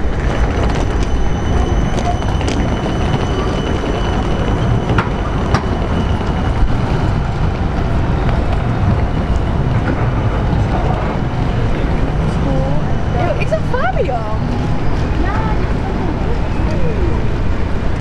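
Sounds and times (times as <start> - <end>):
tram rumbling: 0.0 - 18.0.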